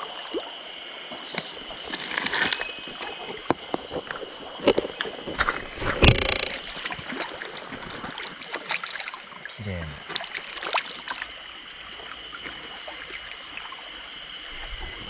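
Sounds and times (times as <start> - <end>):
water splashing: 0.0 - 13.6
mountain stream running: 0.0 - 15.0.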